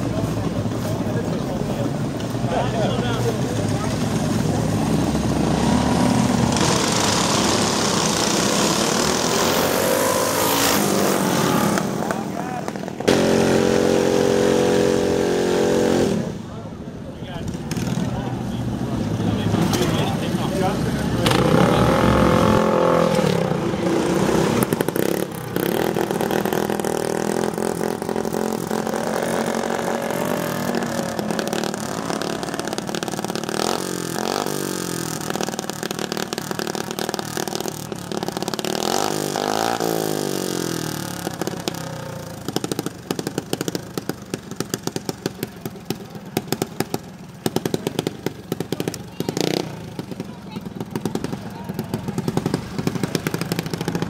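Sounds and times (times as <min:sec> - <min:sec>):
minibike engines racing past: 0:00.0 - 0:54.0.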